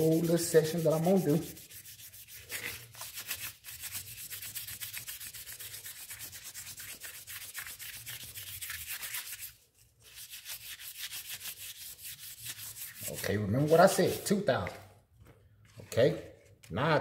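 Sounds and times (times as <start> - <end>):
sandpaper rubbing on metal: 0.0 - 14.4.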